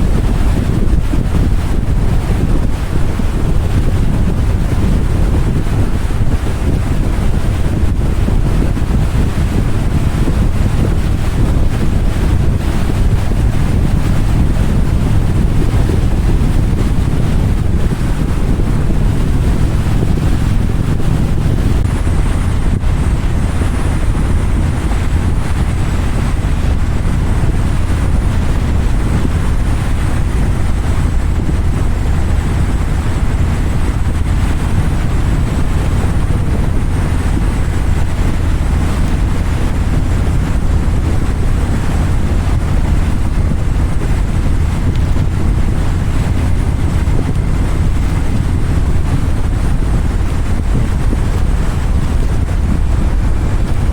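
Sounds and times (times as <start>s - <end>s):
motorcycle engine: 0.0s - 52.9s
road noise: 0.0s - 53.9s
wind rushing over microphone: 0.0s - 53.9s.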